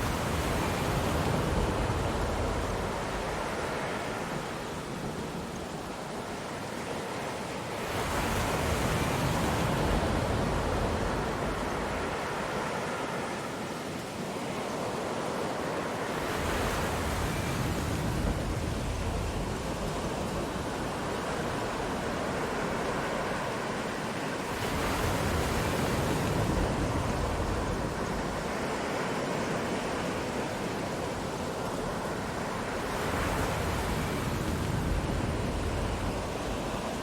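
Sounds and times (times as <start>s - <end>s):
ocean waves rushing: 0.0s - 37.0s.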